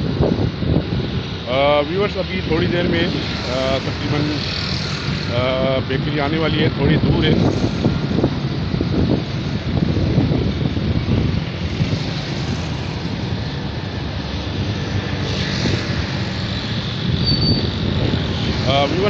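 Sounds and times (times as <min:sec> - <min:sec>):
road traffic rumble: 0:00.0 - 0:19.0
wind buffeting microphone: 0:00.0 - 0:19.0.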